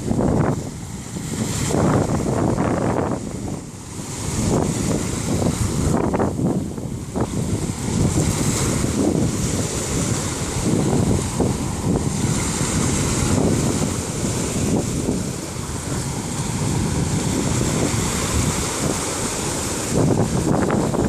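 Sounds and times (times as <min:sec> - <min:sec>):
sea surf washing onto beach: 0:00.0 - 0:21.0
wind buffeting microphone: 0:00.0 - 0:21.0.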